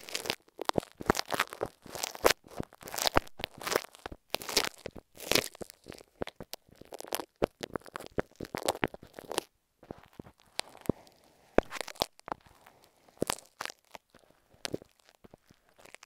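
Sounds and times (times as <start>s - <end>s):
sticky glue crackling and clicking: 0.0s - 16.0s.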